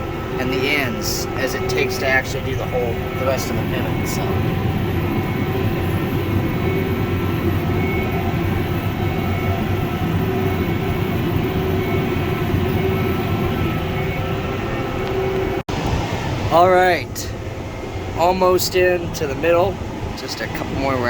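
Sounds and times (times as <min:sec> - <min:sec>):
tractor and baler running: 0:00.0 - 0:21.0.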